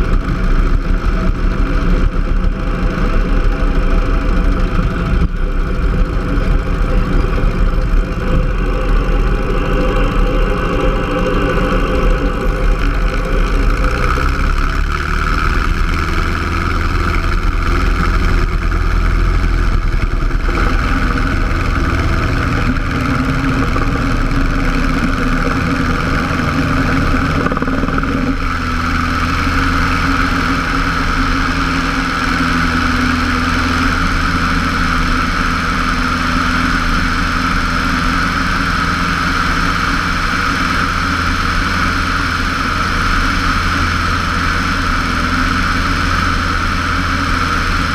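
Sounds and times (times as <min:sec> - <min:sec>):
light aircraft engine and propeller: 0:00.0 - 0:47.9.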